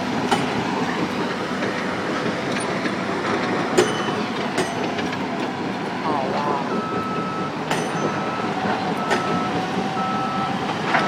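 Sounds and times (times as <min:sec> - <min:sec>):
hydraulic breaker hammer pounding: 0:00.2 - 0:05.5, 0:06.9 - 0:11.0.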